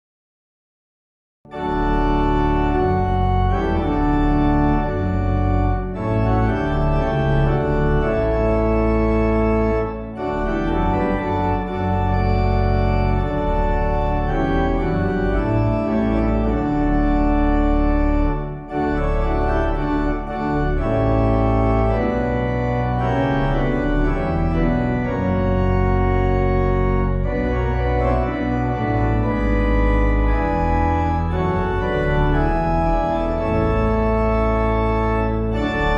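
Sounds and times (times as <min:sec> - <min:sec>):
organ chords: 0:01.5 - 0:35.9.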